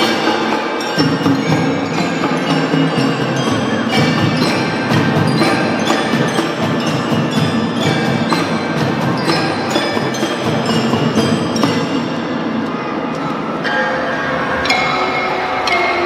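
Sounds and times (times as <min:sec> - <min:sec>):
children's percussion band playing: 0:00.0 - 0:16.0.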